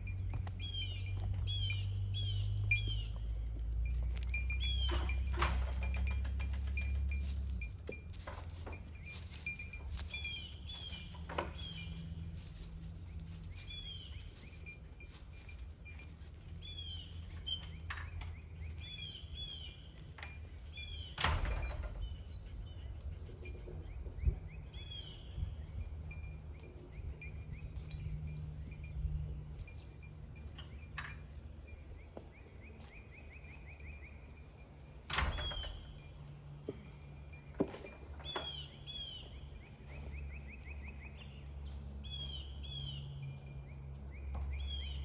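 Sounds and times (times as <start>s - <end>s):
small birds chirping: 0.0s - 37.5s, 38.2s - 45.0s
light clinks: 0.0s - 45.0s.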